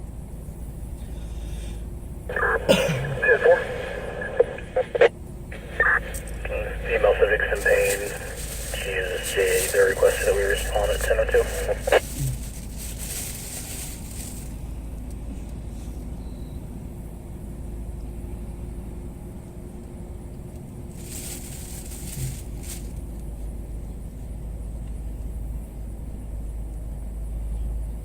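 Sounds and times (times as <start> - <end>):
vehicle engine rumble: 0.0 - 19.0, 19.7 - 28.0.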